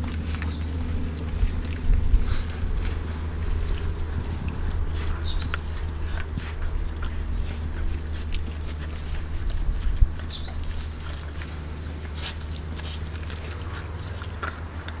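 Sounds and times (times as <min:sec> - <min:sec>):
steady low hum: 0:00.0 - 0:15.0
teeth scraping on bone: 0:00.0 - 0:15.0.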